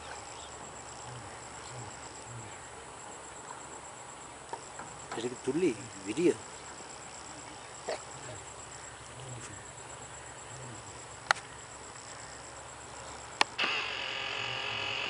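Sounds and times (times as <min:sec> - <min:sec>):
insects trilling: 0:00.0 - 0:15.0
loud steady insect buzz: 0:00.0 - 0:15.0.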